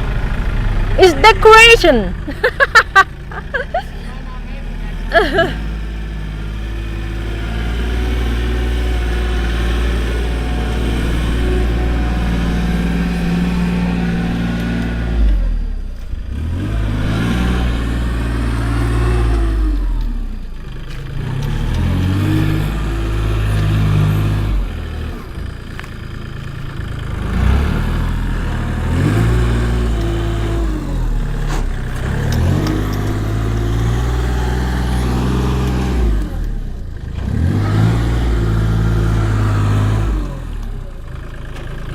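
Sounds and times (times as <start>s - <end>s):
large engine revving: 0.0s - 41.9s.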